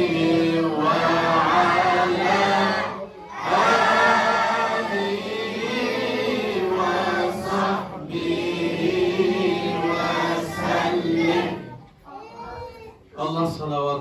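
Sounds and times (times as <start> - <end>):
congregation chanting in unison: 0.0 - 11.9.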